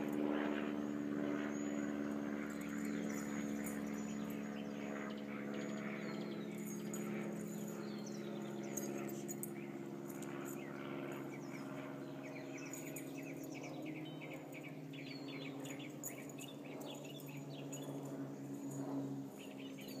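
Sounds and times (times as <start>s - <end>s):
steady low hum: 0.0s - 20.0s
songbirds chirping: 0.6s - 20.0s.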